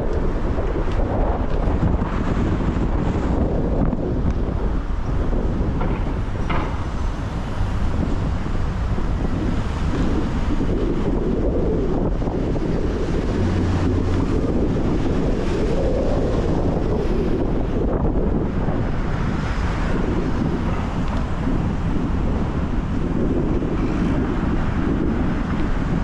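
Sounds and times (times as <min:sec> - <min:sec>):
city traffic rumble: 0:00.0 - 0:26.0
wind buffeting microphone: 0:00.0 - 0:26.0.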